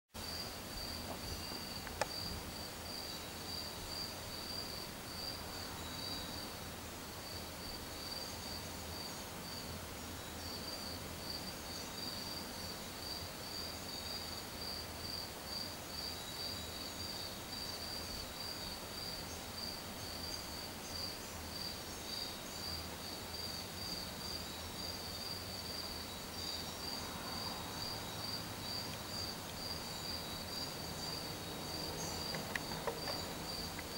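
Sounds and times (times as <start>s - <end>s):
cricket chirping: 0.2s - 33.9s.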